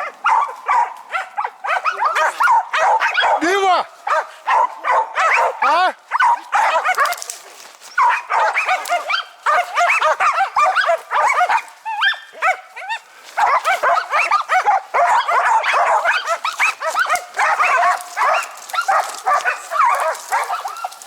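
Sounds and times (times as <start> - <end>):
dogs barking together: 0.0 - 21.0.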